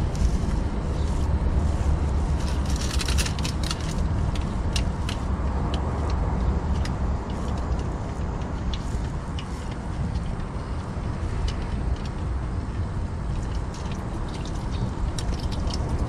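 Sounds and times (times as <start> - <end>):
steady low rumble: 0.0 - 16.0
light clicks and crackles: 2.3 - 16.0.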